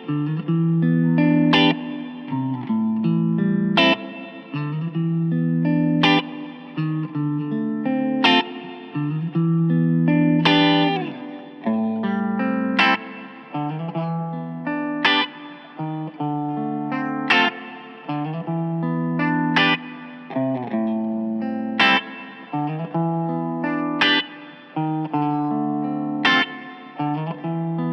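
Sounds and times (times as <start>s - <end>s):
electric guitar chords and notes: 0.0s - 27.9s.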